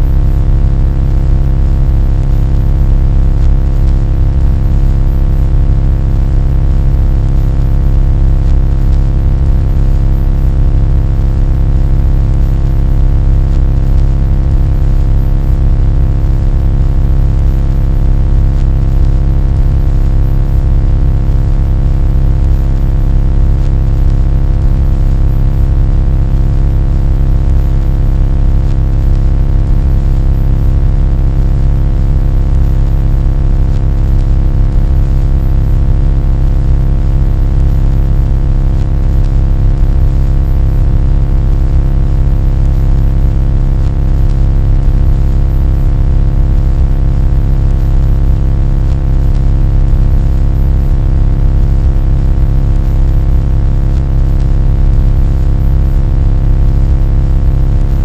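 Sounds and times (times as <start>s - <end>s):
deep drone with steady hum: 0.0s - 50.2s, 50.8s - 52.0s, 52.8s - 55.0s.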